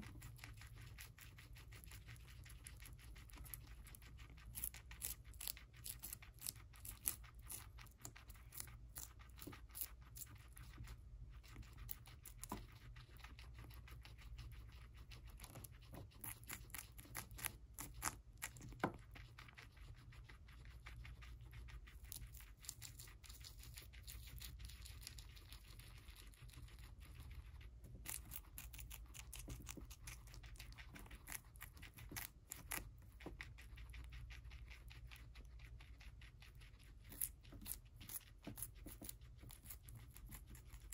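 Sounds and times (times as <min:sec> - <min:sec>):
guinea pigs chewing celery: 0:00.0 - 0:40.9.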